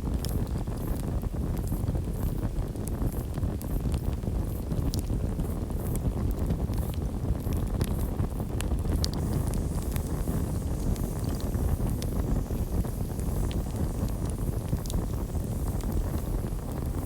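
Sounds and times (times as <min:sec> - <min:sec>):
campfire flames rushing: 0:00.0 - 0:17.0
fire crackling and popping: 0:00.0 - 0:17.0.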